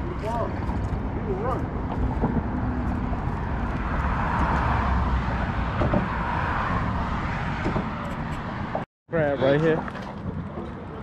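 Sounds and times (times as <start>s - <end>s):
vehicle passing on road: 0.0s - 8.8s.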